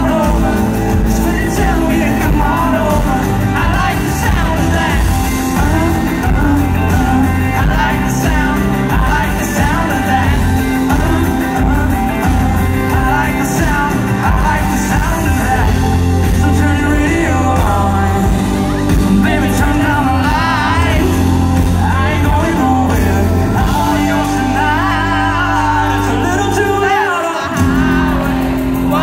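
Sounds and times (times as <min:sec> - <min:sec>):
lead singer: 0:00.0 - 0:29.0
live country-pop band: 0:00.0 - 0:29.0.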